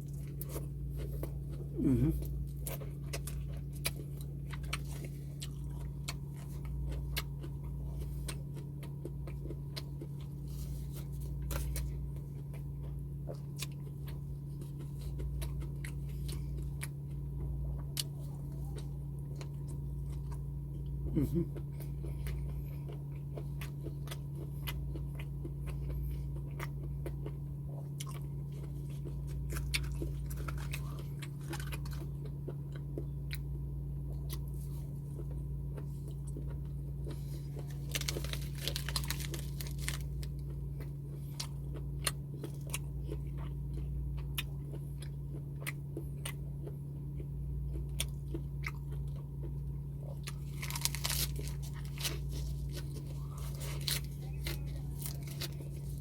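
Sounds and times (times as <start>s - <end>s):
chewing crunchy food: 0.0s - 56.0s
steady low hum: 0.0s - 56.0s.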